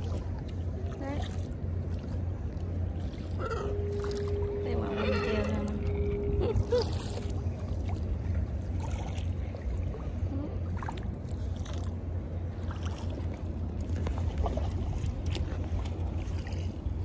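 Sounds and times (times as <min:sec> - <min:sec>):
low rumble: 0:00.0 - 0:17.0
paddle splashes: 0:00.0 - 0:17.0
water sloshing: 0:00.0 - 0:17.0.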